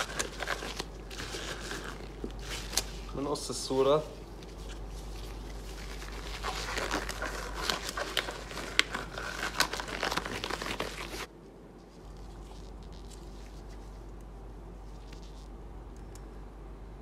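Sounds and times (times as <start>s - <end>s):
paper crinkling: 0.0s - 15.5s.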